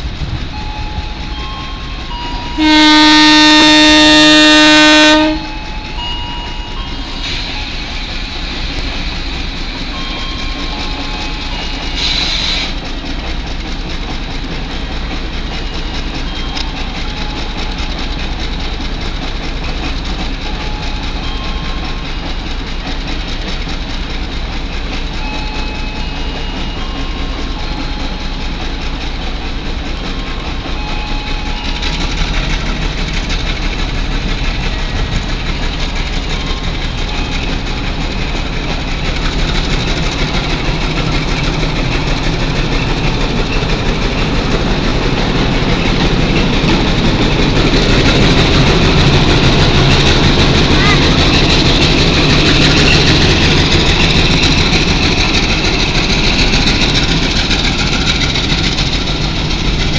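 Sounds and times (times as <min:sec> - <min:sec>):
locomotive engine rumble: 0:00.0 - 0:59.9.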